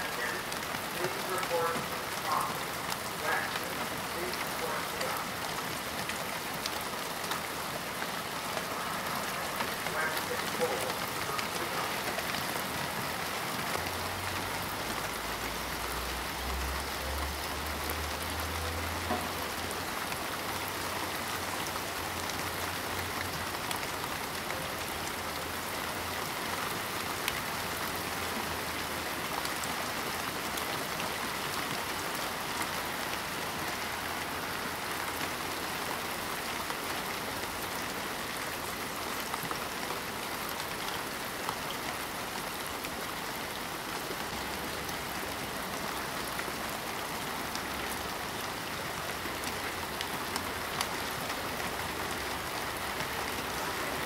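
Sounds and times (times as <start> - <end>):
rain falling on cars: 0.0 - 54.0.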